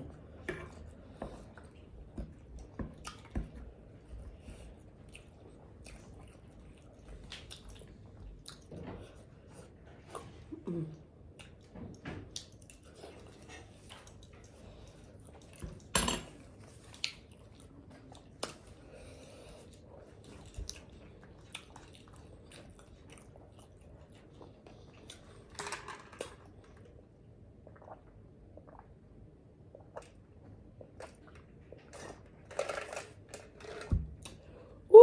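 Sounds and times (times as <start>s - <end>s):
chewing and crunching food: 0.0s - 29.0s, 29.6s - 34.9s.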